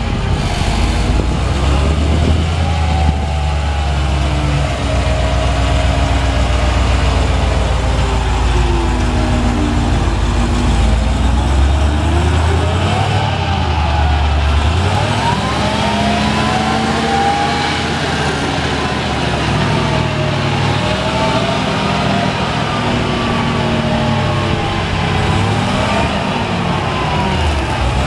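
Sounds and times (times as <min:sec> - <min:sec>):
forklift engine running: 0:00.0 - 0:28.0.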